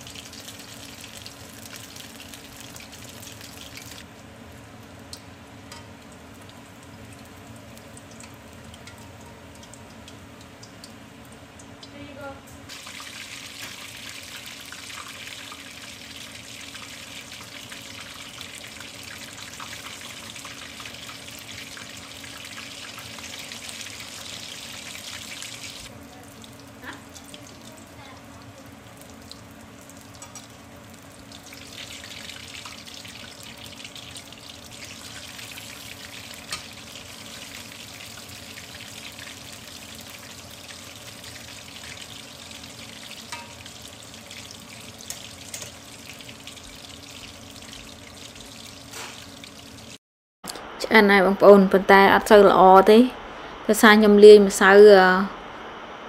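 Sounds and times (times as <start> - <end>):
fritters sizzling in hot oil: 0.0 - 50.0.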